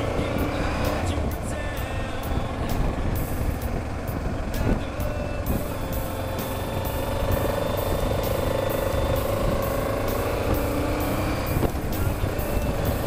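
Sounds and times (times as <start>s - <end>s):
motorcycle engine: 0.0s - 13.0s
wind rumble on microphone: 0.0s - 13.0s.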